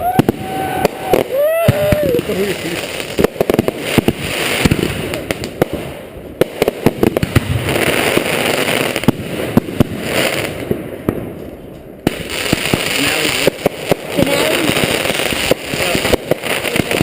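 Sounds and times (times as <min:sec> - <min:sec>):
fireworks bangs and pops: 0:00.0 - 0:17.0
hissing crackle of fireworks: 0:00.0 - 0:17.0.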